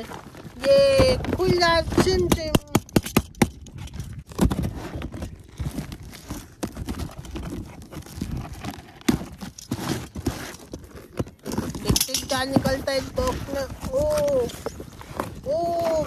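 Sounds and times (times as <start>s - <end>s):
cardboard rustling: 0.0s - 2.7s, 3.3s - 16.0s.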